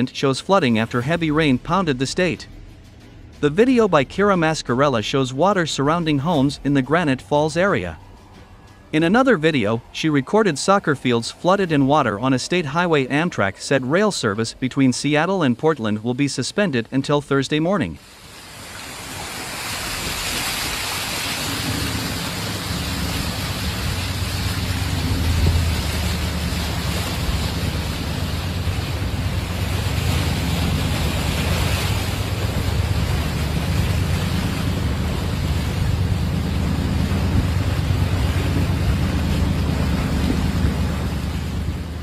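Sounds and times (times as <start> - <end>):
vehicle driving through floodwater: 0.0 - 42.0
low rumble: 0.6 - 12.6, 19.0 - 42.0.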